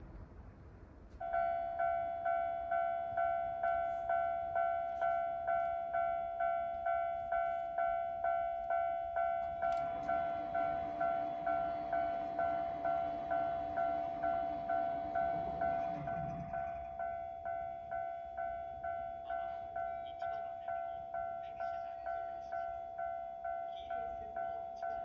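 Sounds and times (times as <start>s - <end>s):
level crossing warning bell: 1.2s - 25.0s.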